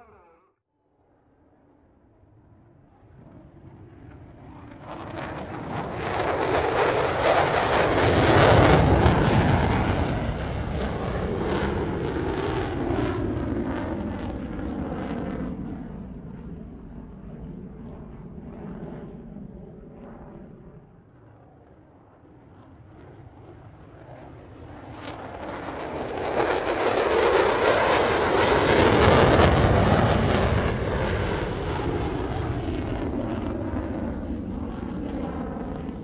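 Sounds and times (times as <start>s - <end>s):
jet engine roaring past: 1.2s - 36.0s.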